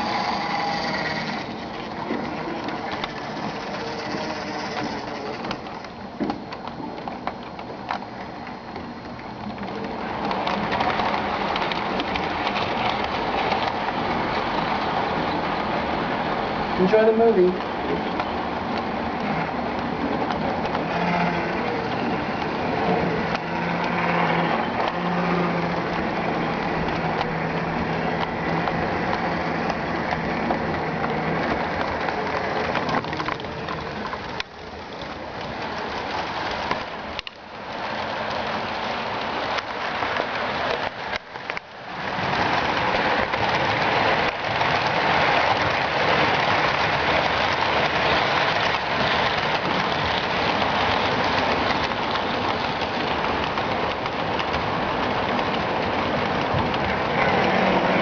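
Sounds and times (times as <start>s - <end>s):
model trains rumbling on track: 0.0s - 58.0s.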